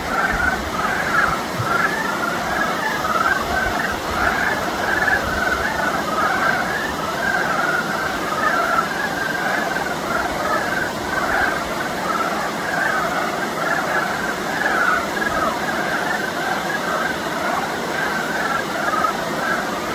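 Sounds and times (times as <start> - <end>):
chorus of frogs calling: 0.0 - 19.9.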